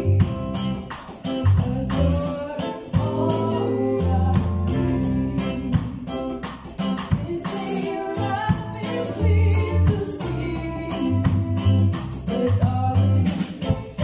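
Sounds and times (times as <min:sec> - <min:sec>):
bass line: 0:00.0 - 0:14.0
electric guitar: 0:00.0 - 0:14.0
voices singing: 0:00.0 - 0:14.0.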